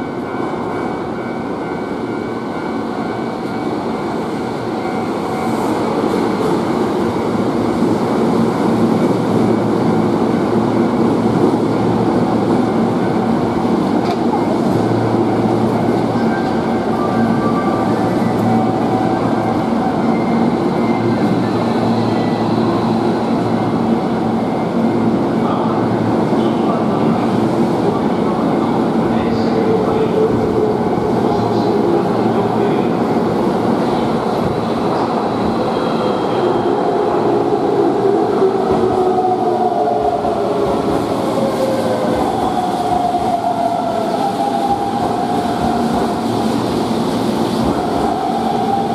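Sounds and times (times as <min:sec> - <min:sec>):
electric train arriving: 0:00.0 - 0:48.9.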